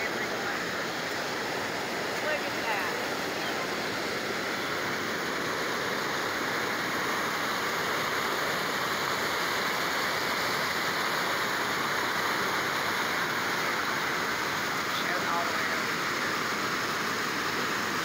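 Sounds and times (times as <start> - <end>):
water rushing through rapids: 0.0 - 18.0.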